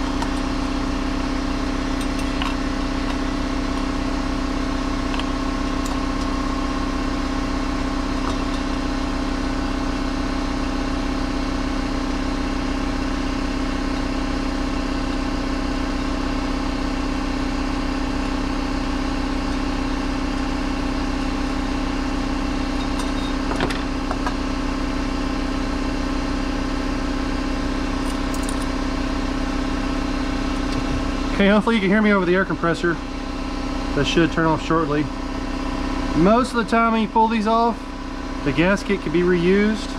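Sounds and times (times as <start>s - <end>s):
air compressor droning: 0.0s - 39.9s.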